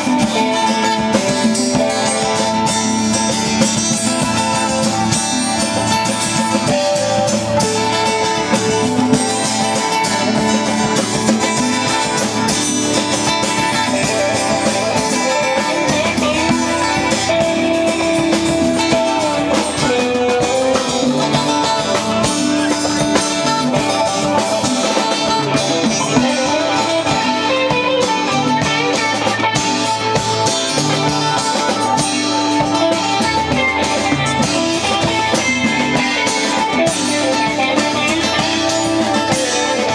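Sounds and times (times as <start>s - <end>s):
guitars playing: 0.0s - 39.9s
steady drums: 0.0s - 39.9s.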